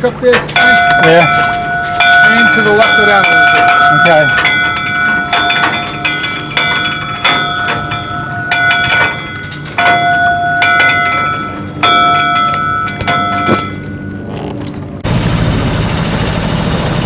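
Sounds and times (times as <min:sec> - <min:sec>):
metal bells ringing: 0:00.0 - 0:14.4.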